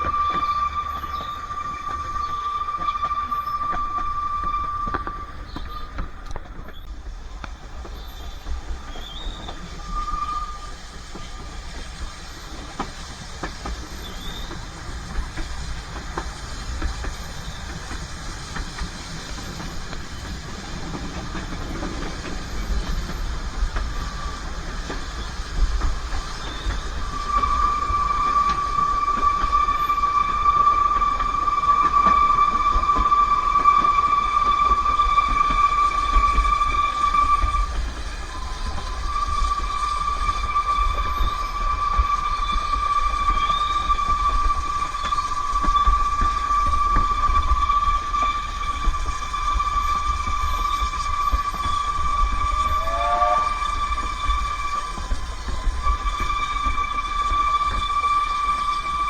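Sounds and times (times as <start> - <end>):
train running on rails: 0.0 - 59.0
train wheels squealing: 0.0 - 59.0.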